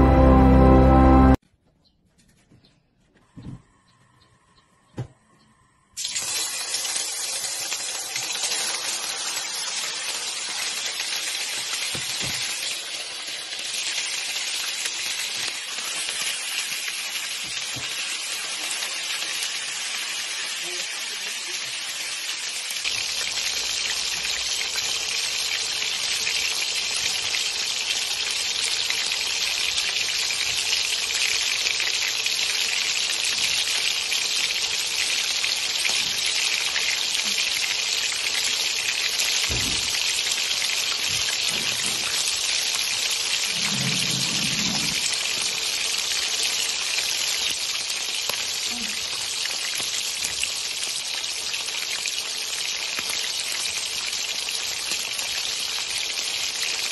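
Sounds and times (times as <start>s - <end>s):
hot oil sizzling in a pan: 6.0s - 56.9s.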